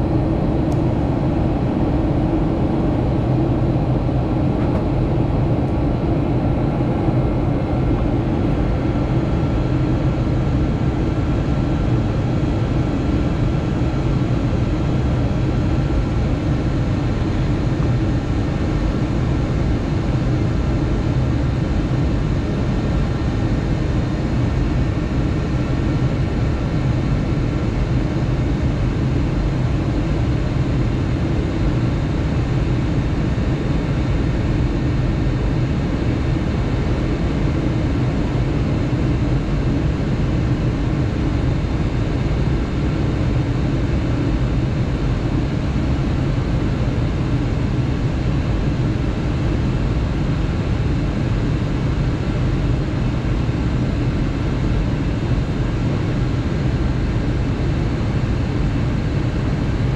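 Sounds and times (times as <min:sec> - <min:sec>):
jet engine hum: 0:00.0 - 0:59.9.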